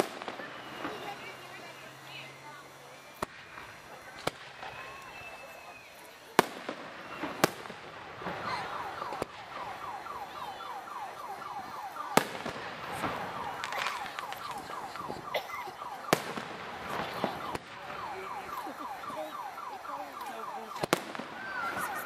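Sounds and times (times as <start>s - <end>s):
firework pops and crackle: 0.0s - 1.7s, 3.0s - 10.0s, 11.5s - 18.9s, 20.0s - 22.0s
firework bangs: 0.0s - 22.0s.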